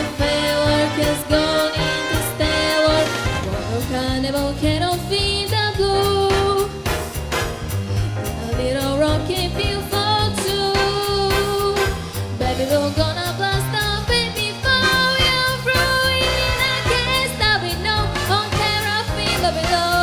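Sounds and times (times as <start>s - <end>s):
swing music: 0.0s - 20.0s.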